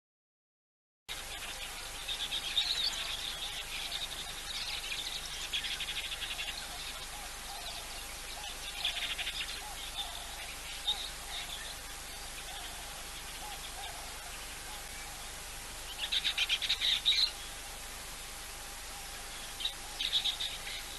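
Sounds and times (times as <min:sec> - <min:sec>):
birds chirping and trilling: 0:01.1 - 0:20.9
faint steady hiss: 0:01.1 - 0:20.9
low repeated bird notes: 0:01.1 - 0:20.9.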